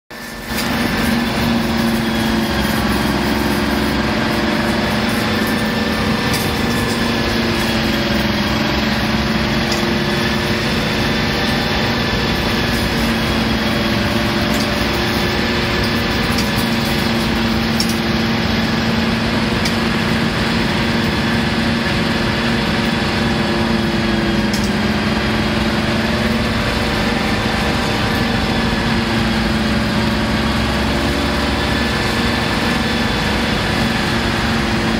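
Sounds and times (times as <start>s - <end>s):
diesel locomotive engines working hard: 0.1s - 34.9s.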